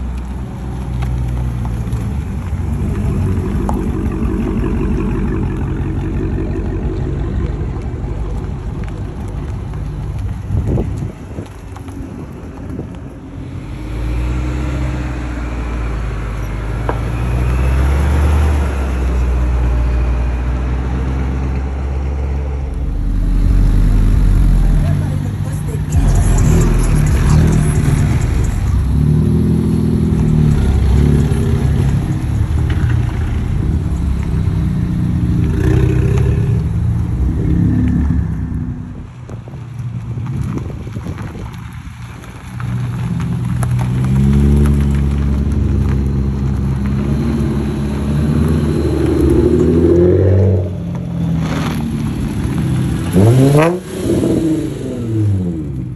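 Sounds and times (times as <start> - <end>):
car engine accelerating and revving: 0.0 - 55.9
car exhaust drone: 0.0 - 55.9.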